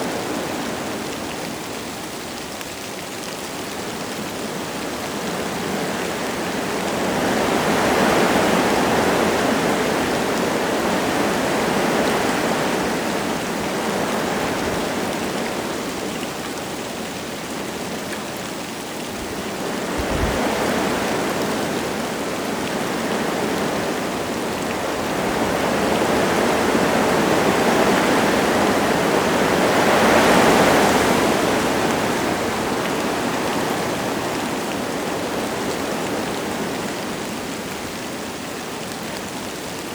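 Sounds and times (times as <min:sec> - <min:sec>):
light rain falling: 0:00.0 - 0:39.9
wind gusting through trees: 0:00.0 - 0:39.9.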